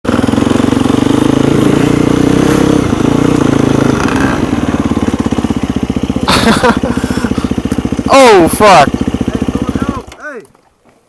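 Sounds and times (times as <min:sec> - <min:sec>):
dirt bike engine revving: 0:00.0 - 0:10.3.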